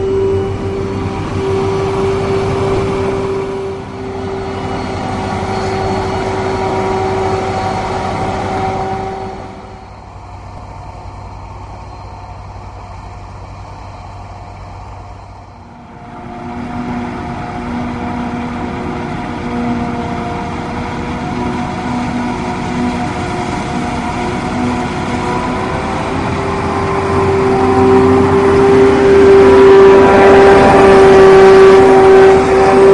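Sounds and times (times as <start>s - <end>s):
diesel harvest machinery engine: 0.0s - 32.9s.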